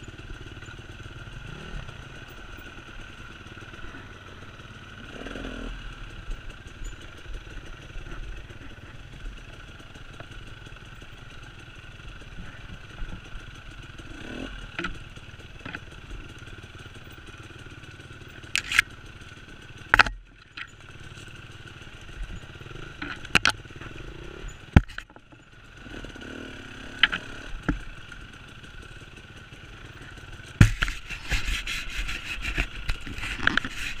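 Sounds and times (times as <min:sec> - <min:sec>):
dirt bike engine running: 0:00.0 - 0:34.0
knocks and clatter from bike: 0:00.0 - 0:34.0.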